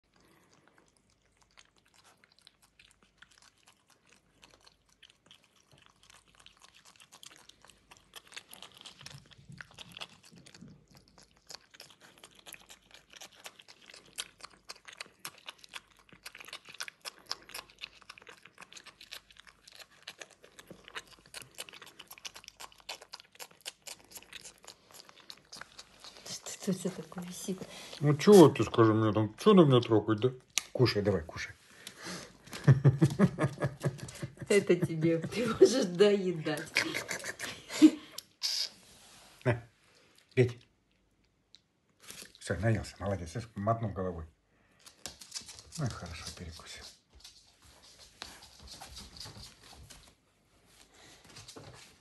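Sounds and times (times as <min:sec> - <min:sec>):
animal chewing fruit: 0:00.0 - 0:52.0.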